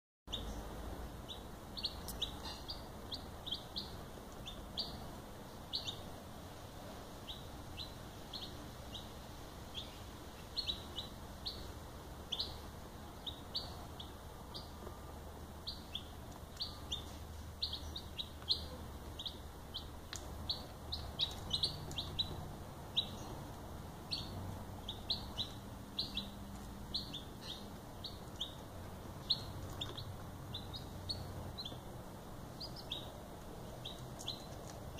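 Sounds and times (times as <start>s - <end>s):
chicks peeping: 1.3s - 6.2s, 7.2s - 34.9s.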